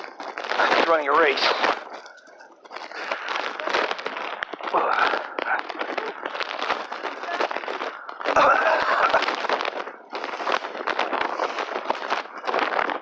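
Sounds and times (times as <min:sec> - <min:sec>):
footsteps rustling through wet leaves: 0:00.0 - 0:12.4.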